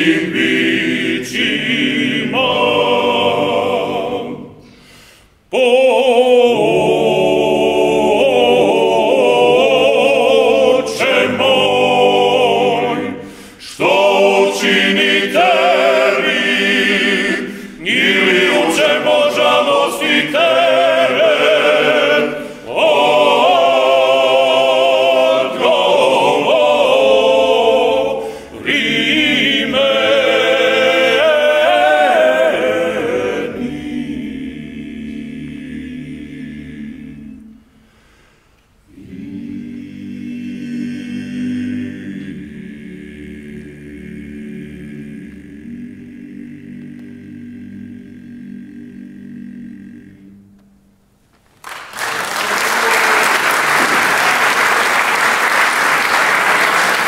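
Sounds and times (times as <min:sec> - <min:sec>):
male choir singing in harmony: 0:00.0 - 0:04.8, 0:05.5 - 0:37.7, 0:38.9 - 0:50.5.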